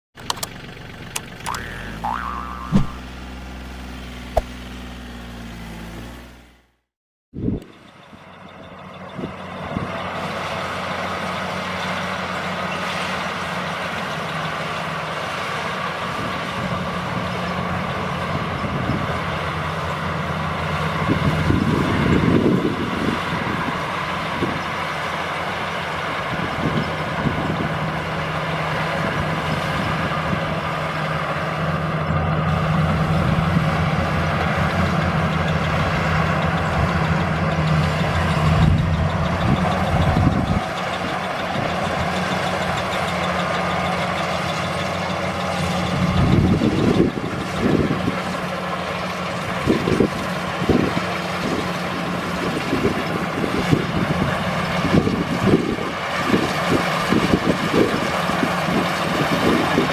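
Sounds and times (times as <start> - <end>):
combine harvester engine running: 0.2 - 6.8, 7.4 - 59.9.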